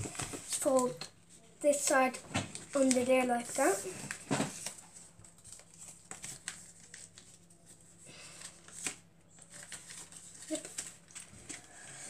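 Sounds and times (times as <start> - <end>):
paper rustling and creasing: 0.0 - 12.0.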